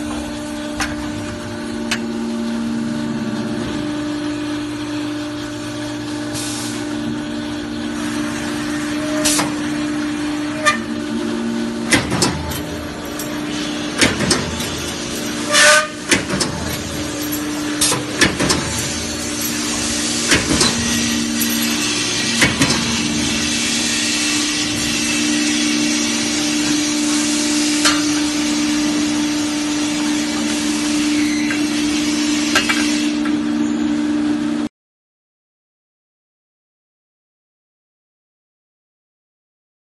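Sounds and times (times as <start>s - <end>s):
machine motor hum: 0.0s - 32.5s.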